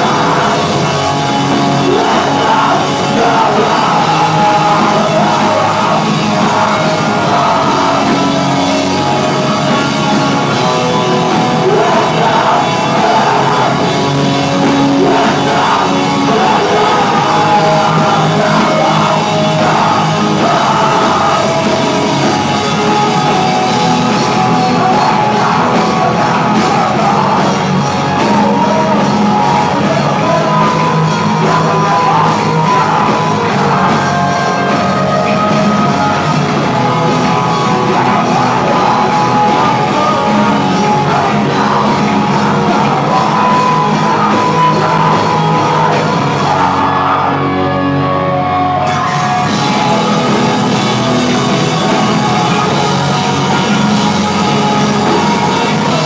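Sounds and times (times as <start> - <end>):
drum kit: 0.0 - 56.0
electric guitar: 0.0 - 56.0
shouted vocals: 0.0 - 56.0.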